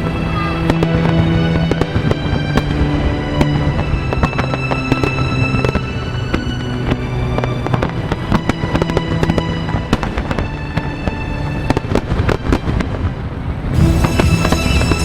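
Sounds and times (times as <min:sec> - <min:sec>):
fireworks bangs and crackles: 0:00.0 - 0:15.0
music with sustained chords: 0:00.0 - 0:15.0.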